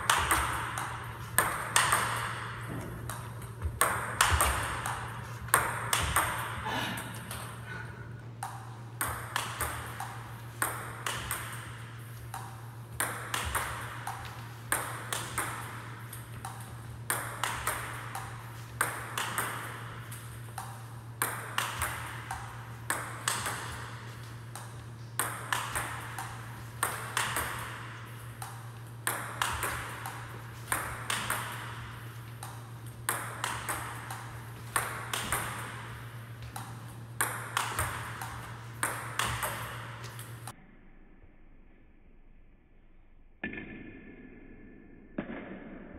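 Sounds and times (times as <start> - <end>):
table tennis ball clicks: 0.0 - 6.5, 8.4 - 40.5
steady low hum: 0.0 - 43.4.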